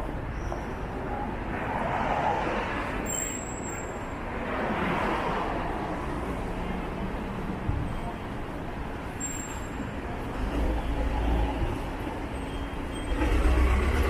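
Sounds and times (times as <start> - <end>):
cars passing: 0.0 - 9.2, 9.8 - 14.0
urban rumble: 0.0 - 14.0.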